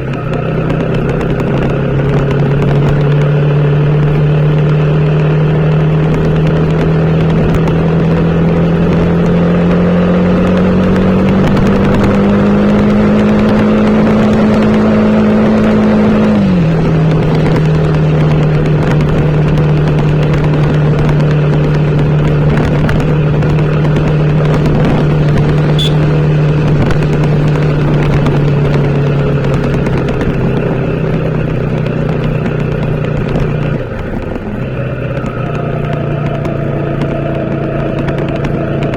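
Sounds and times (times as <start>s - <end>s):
constant rushing noise: 0.0s - 38.9s
motorcycle engine running: 0.0s - 38.9s.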